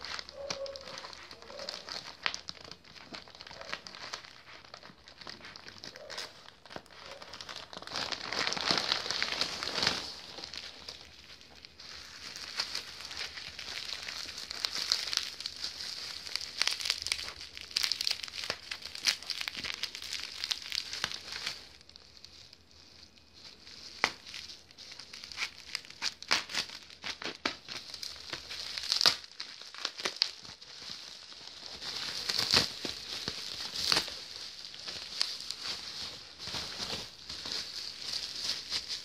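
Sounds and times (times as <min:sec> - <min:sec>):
bubble wrap crinkling: 0:00.0 - 0:39.0.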